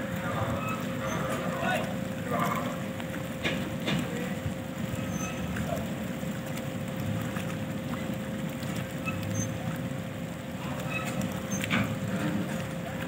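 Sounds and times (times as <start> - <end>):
droning hum: 0.0 - 13.0
ship engines rumbling: 0.0 - 13.0.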